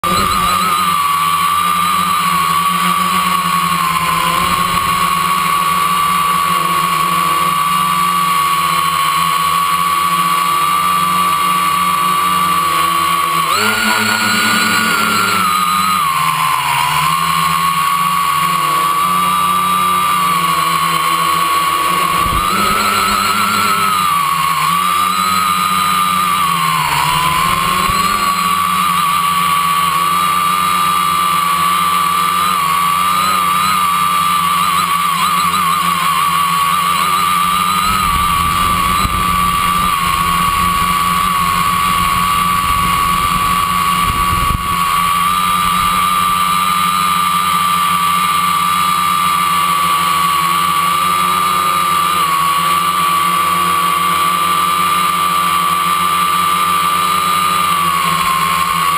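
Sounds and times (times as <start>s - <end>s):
drone motors whining: 0.0s - 58.9s.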